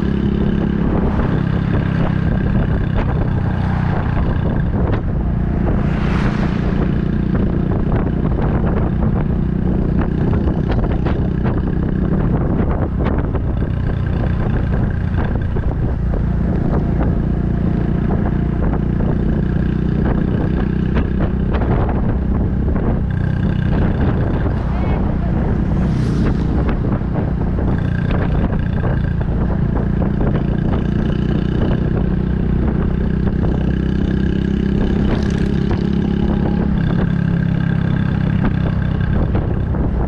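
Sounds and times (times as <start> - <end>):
motorcycle engine cruising: 0.0 - 40.0
wind buffeting microphone: 0.0 - 40.0.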